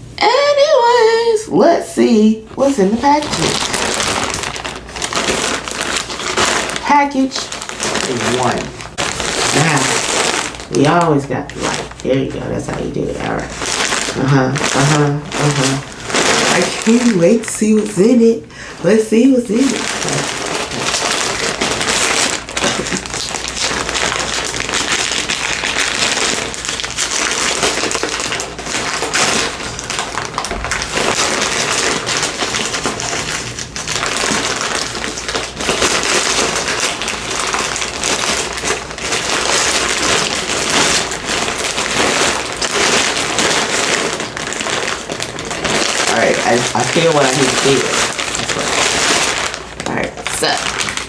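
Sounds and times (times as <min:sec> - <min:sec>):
packaging crinkling and rustling: 0:02.5 - 0:51.0.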